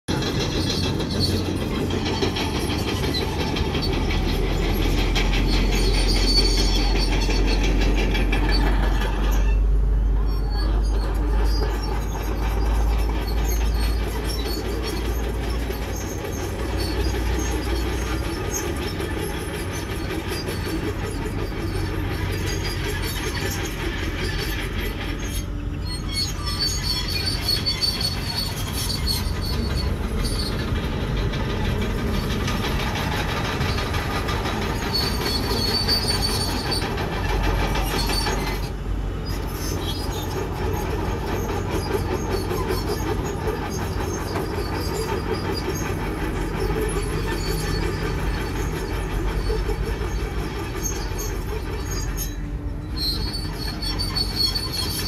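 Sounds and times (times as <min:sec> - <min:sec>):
diesel engine running under load: 0:00.1 - 0:55.0
steel tracks clanking and squealing: 0:00.1 - 0:55.0.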